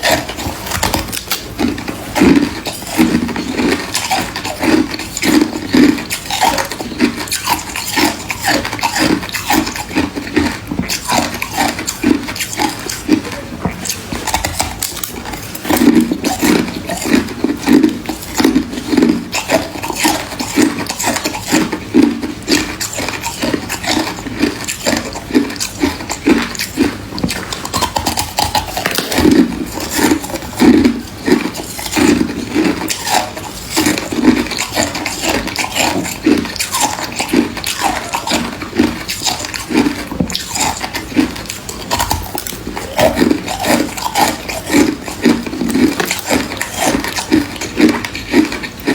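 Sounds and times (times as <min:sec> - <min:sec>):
chewing and crunching frost: 0:00.0 - 0:48.9
wet mouthy bites: 0:00.0 - 0:48.9.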